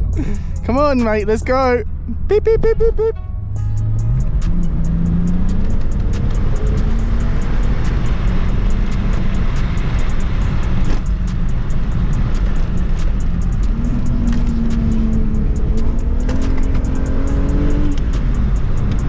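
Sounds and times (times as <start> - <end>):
car engine accelerating: 0.0 - 19.0
music playing in car: 0.0 - 19.0
road noise inside car: 0.0 - 19.0.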